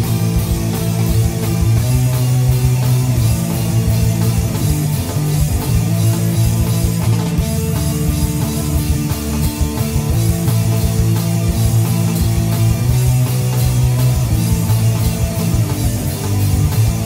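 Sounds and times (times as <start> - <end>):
rock song with guitar and drums: 0.0 - 17.0.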